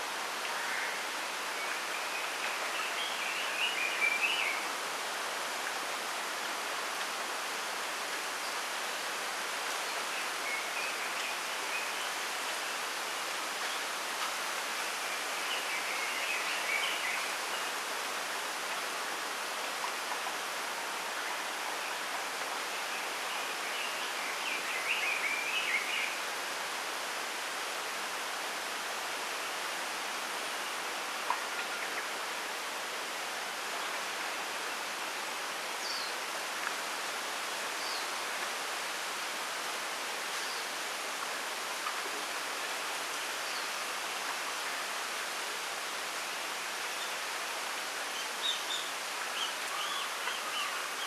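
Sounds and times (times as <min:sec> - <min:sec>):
wind rustling through bamboo: 0:00.0 - 0:51.0.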